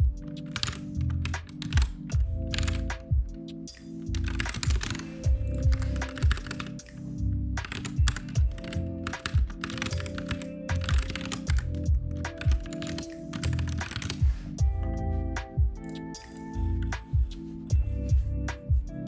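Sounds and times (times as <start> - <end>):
computer keyboard typing: 0.0 - 14.7, 15.4 - 17.4
lo-fi background music: 0.0 - 19.0.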